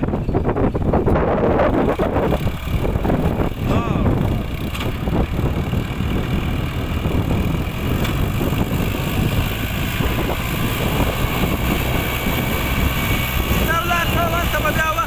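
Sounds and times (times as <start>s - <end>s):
excavator diesel engine: 0.0s - 15.0s
tractor diesel engine: 0.0s - 15.0s.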